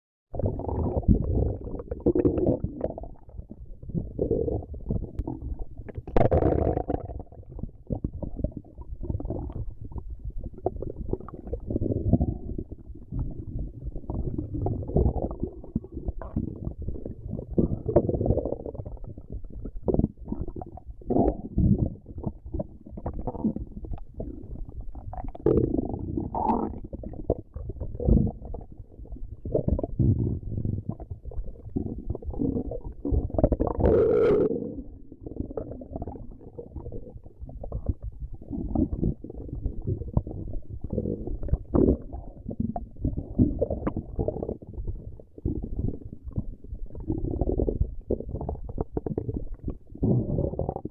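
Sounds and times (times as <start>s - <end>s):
stomach growling: 0.4s - 50.9s.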